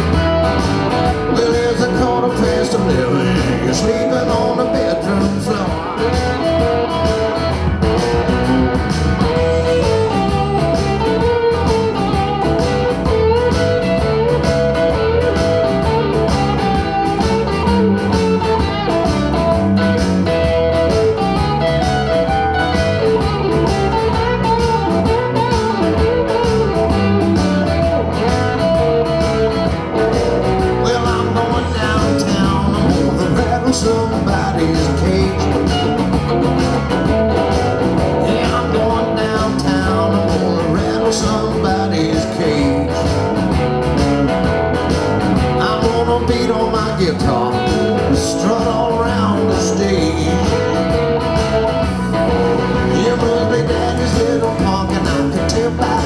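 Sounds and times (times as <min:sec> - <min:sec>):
bass: 0:00.0 - 0:56.0
drum beat: 0:00.0 - 0:56.0
electric guitar lead: 0:00.0 - 0:56.0.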